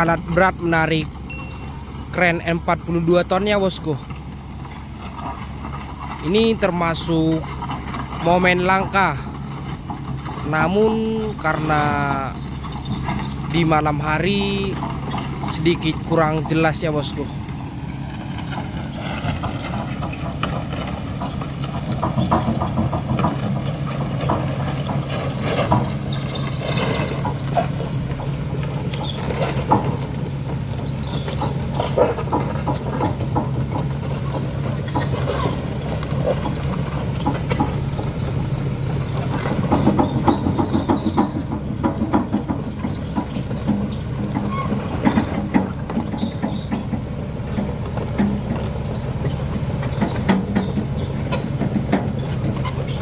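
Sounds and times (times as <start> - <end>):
heavy diesel engines under load: 0.0 - 53.0
irregular knocks and clanks: 0.0 - 53.0.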